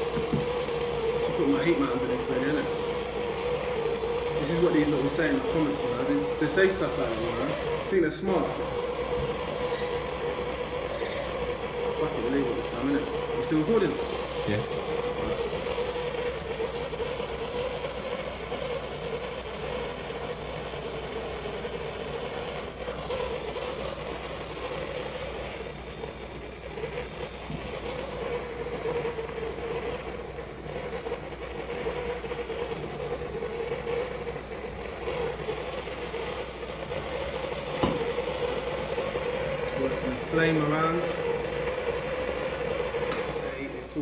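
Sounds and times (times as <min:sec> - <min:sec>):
blowtorch flame burning: 0:00.0 - 0:44.0.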